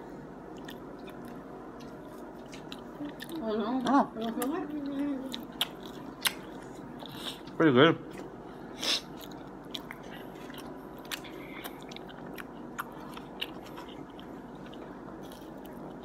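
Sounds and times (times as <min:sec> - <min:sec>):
low background hum: 0:00.0 - 0:16.0
person chewing food: 0:00.4 - 0:16.0.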